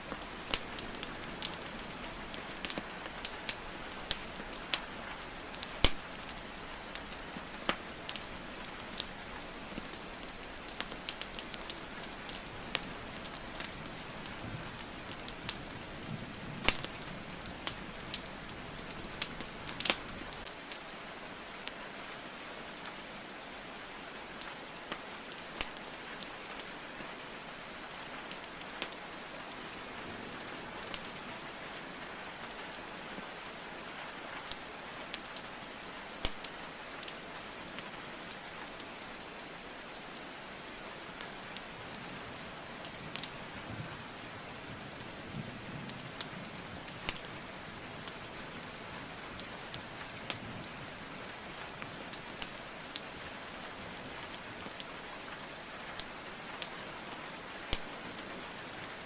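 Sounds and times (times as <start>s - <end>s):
steady rainfall hiss: 0.0s - 59.0s
wood crackling in a fireplace: 0.0s - 59.0s.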